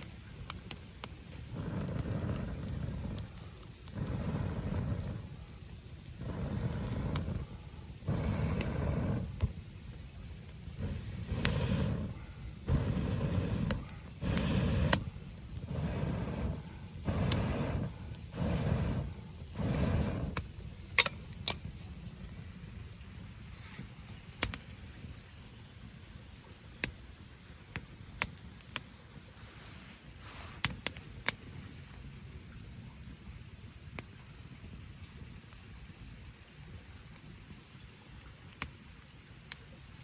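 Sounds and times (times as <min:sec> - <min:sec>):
low steady hiss: 0:00.0 - 0:40.0
wood fire crackling and popping: 0:00.0 - 0:40.0.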